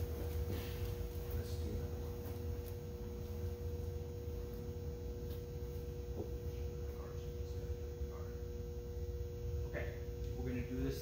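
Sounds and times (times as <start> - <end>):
low room rumble: 0.0 - 11.0.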